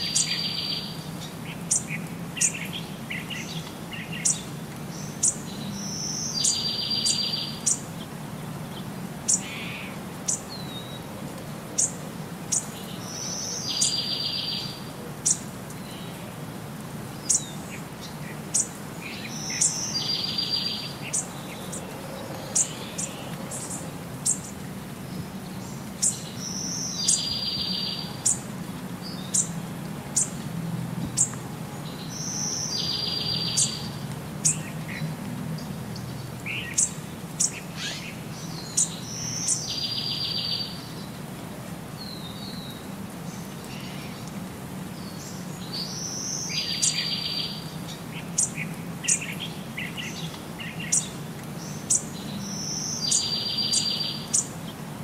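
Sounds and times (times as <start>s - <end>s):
birds chirping: 0.0s - 11.1s, 11.8s - 16.3s, 17.1s - 41.2s, 42.0s - 54.9s.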